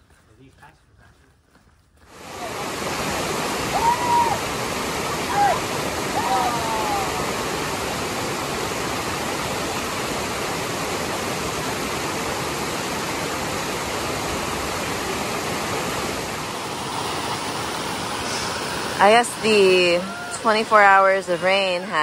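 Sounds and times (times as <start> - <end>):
stream rushing: 2.1 - 22.0.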